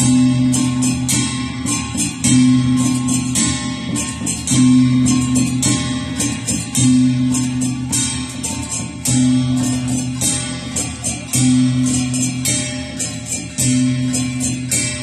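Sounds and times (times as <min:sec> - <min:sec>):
quick bright percussive hits: 0:00.0 - 0:15.0.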